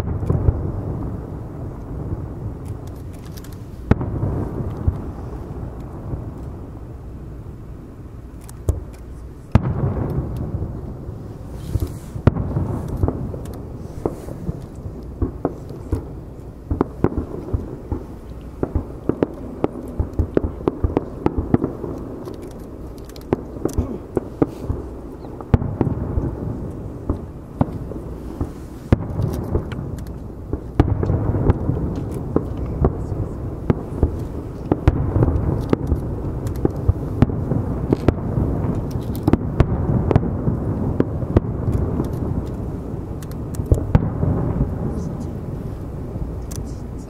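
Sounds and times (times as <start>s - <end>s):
firework pops and crackles: 0.0s - 6.9s, 8.1s - 47.0s
firework shells booming: 0.0s - 47.0s.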